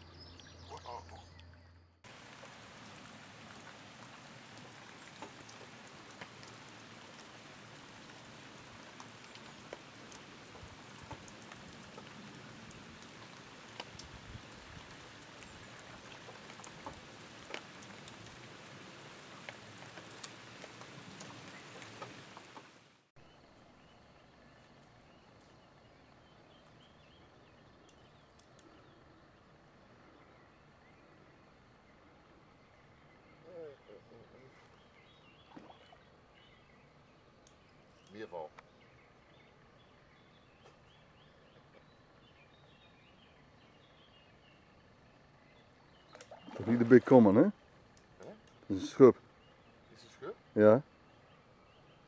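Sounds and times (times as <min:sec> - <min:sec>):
rain falling on a lake: 0:00.0 - 0:52.0
raindrops ticking close by: 0:00.1 - 0:23.7, 0:24.5 - 0:52.0.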